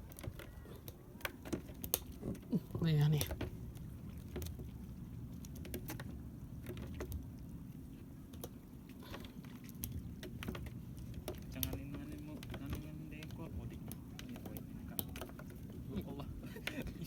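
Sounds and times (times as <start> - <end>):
light clicks and taps: 0.0 - 7.2, 8.3 - 17.0
boat engine rumble: 0.0 - 17.0.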